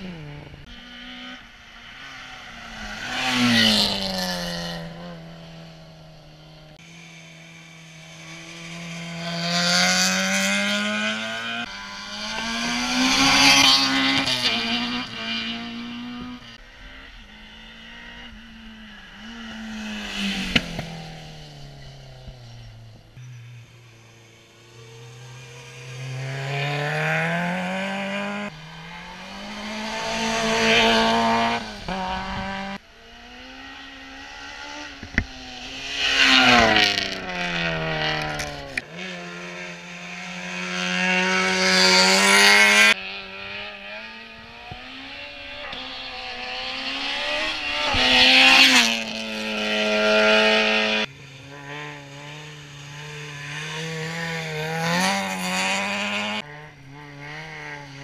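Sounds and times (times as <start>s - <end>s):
rally cars revving past: 0.0s - 58.0s.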